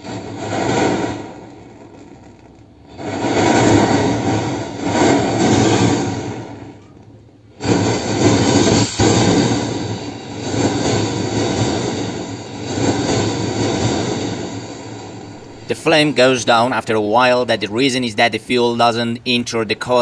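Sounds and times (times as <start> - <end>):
stove flame rushing: 0.0 - 18.0.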